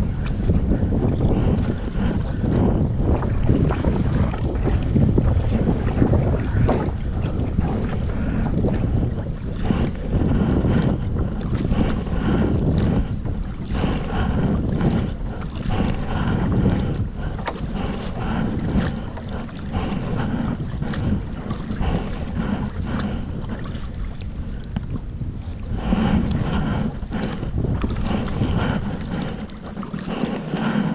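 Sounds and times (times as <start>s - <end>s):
kayak paddle splashing: 0.0s - 30.9s
wind buffeting microphone: 0.0s - 30.9s.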